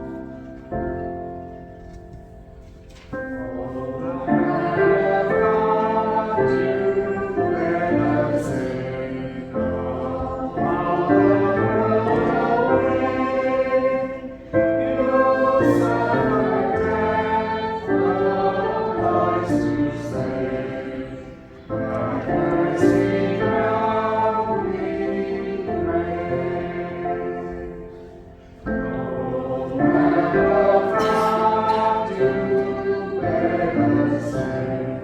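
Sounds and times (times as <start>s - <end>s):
church choir singing: 0.0s - 35.0s
keyboard accompaniment: 0.0s - 35.0s.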